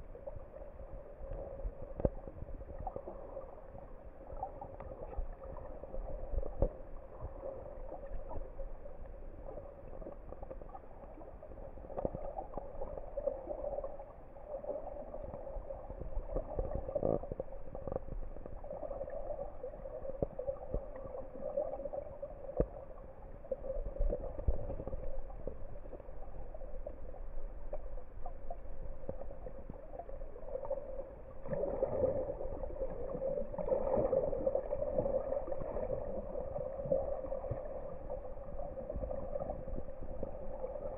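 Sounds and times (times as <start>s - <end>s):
muffled underwater water noise: 0.0s - 40.9s.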